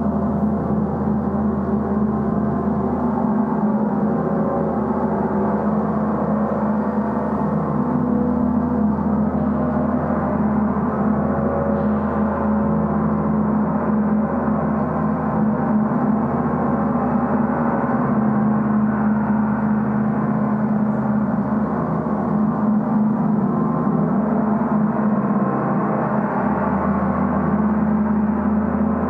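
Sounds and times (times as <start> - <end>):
gong droning: 0.0 - 29.0.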